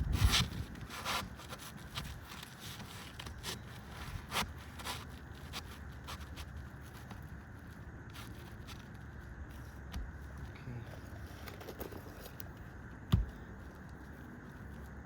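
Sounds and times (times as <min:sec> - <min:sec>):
roof shingles scraping: 0:00.0 - 0:12.8.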